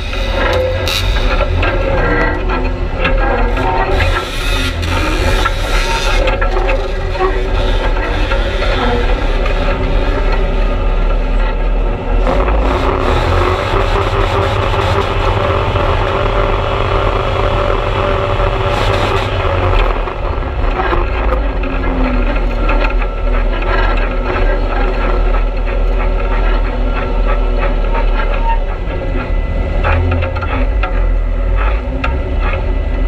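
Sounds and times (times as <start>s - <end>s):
off-road vehicle engine: 0.0s - 33.0s.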